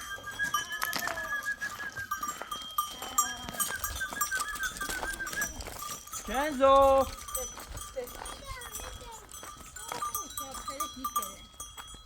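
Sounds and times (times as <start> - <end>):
animal bells jangling: 0.0 - 12.0.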